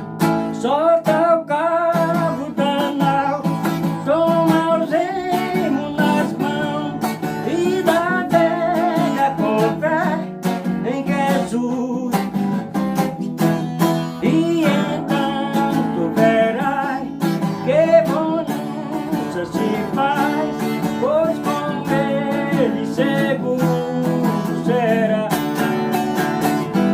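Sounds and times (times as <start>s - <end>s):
acoustic guitar music: 0.0s - 26.9s.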